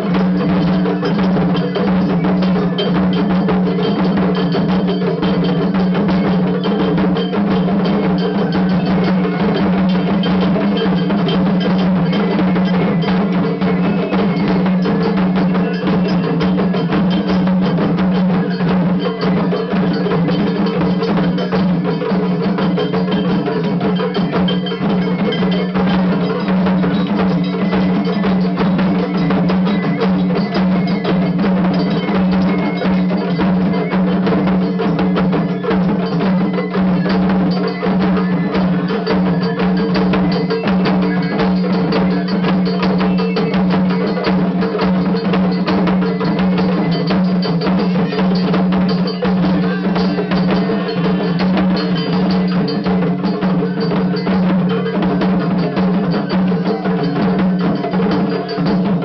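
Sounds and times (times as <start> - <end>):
hand gongs clanging: 0.0 - 59.0
taiko drums: 0.0 - 59.0.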